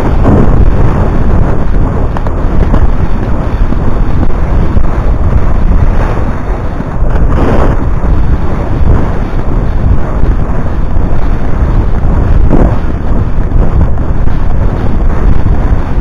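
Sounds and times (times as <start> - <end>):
wind buffeting camera microphone: 0.0 - 16.0.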